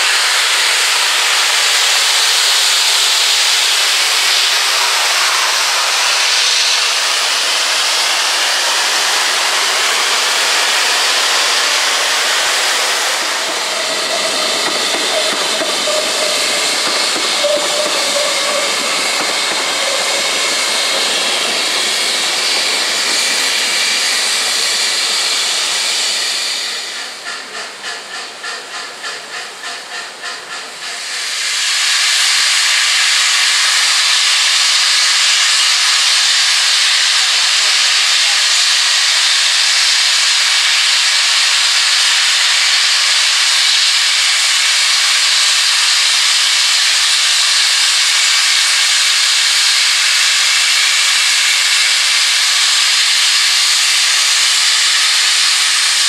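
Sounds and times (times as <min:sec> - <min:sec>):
pulsing steam hiss: 0:00.0 - 0:56.0
steam locomotive hissing: 0:00.0 - 0:56.0
steam venting: 0:00.0 - 0:56.0.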